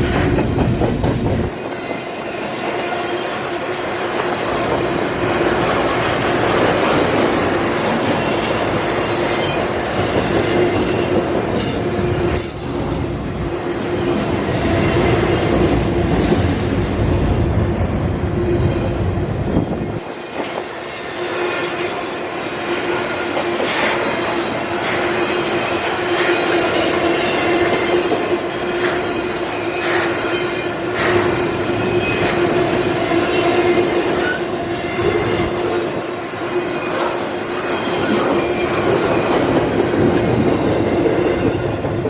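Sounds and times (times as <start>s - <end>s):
freight train rolling past: 0.0s - 42.0s.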